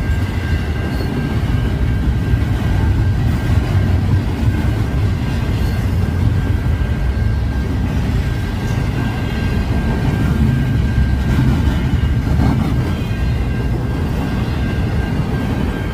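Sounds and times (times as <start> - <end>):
train rolling past rumble: 0.0 - 15.9.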